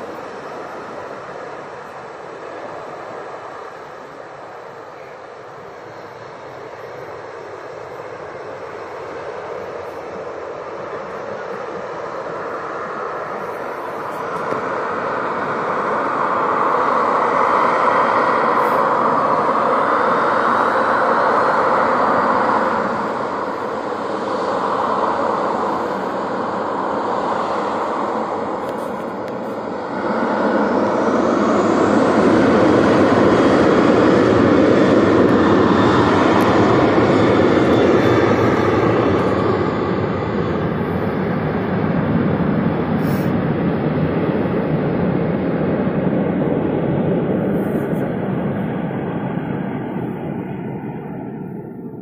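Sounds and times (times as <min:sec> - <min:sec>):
jet engines rumbling and whining: 0:00.0 - 0:52.0.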